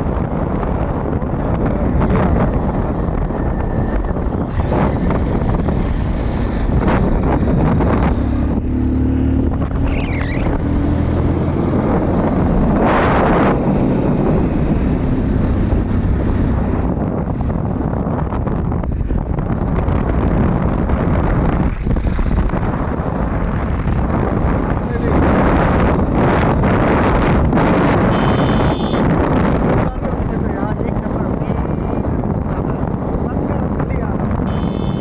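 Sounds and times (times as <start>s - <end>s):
motorcycle engine running: 0.0s - 29.0s, 34.5s - 35.0s
wind buffeting microphone: 0.0s - 35.0s.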